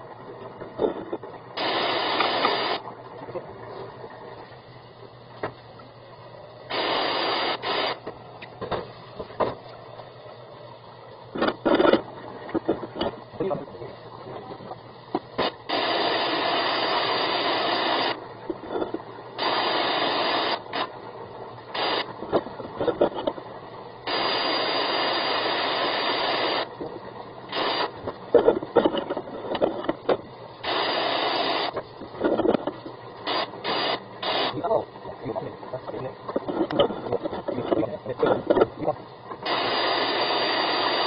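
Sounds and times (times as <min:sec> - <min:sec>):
bursts of static hiss: 0:00.0 - 0:41.0.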